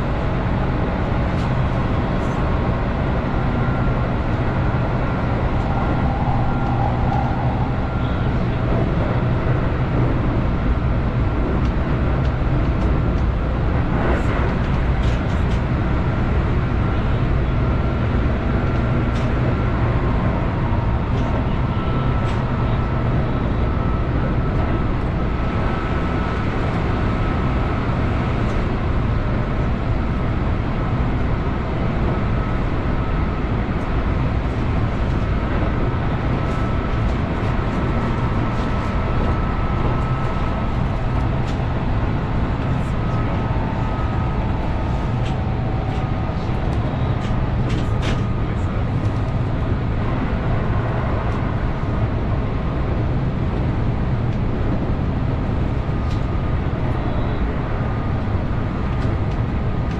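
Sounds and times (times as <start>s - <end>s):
faint steady whine: 0.0s - 11.4s, 15.6s - 59.9s
train wheels rumbling on rail: 0.0s - 59.9s.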